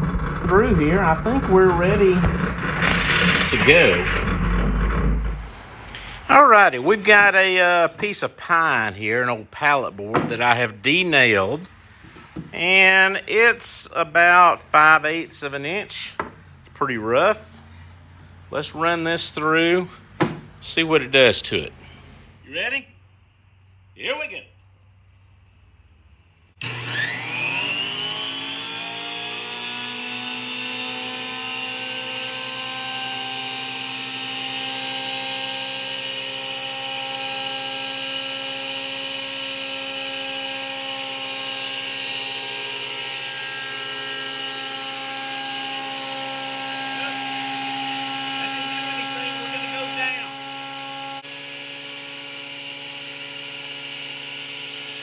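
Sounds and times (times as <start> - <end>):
thickness planer motor whining: 0.0 - 22.4, 26.6 - 55.0.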